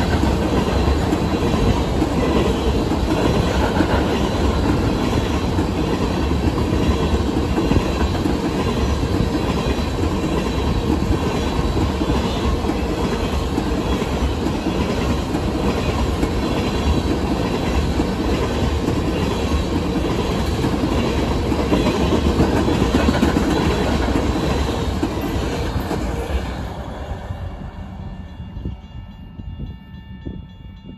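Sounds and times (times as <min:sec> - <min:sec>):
freight train wheels rumbling and clattering: 0:00.0 - 0:30.9.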